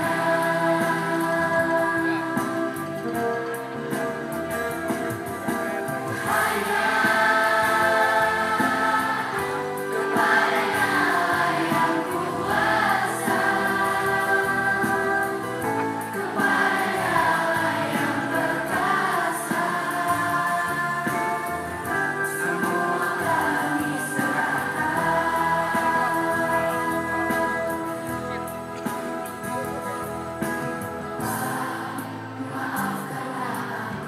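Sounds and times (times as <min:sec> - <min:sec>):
children singing together: 0:00.0 - 0:03.0, 0:06.1 - 0:28.1, 0:31.2 - 0:34.0
instrumental backing music: 0:00.0 - 0:34.0.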